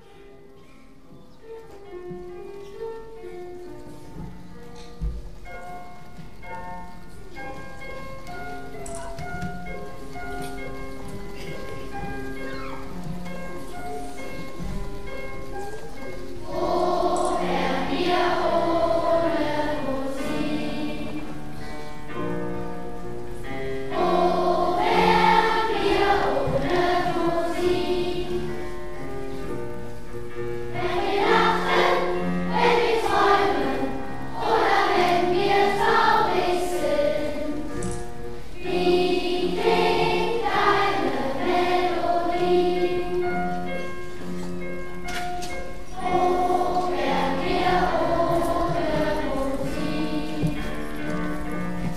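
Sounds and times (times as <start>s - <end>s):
children's choir singing: 0.0s - 51.9s.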